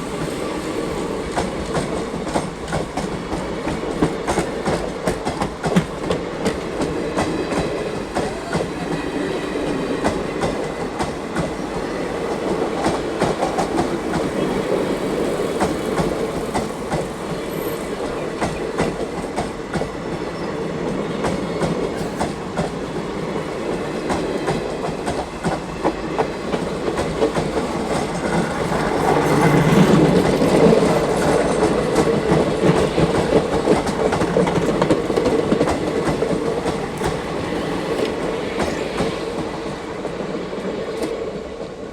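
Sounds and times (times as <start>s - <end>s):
train passing at speed: 0.0s - 41.9s.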